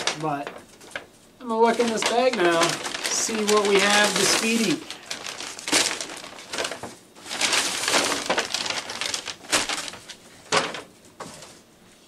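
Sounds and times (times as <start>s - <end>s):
paper bags rustling: 0.0s - 12.0s.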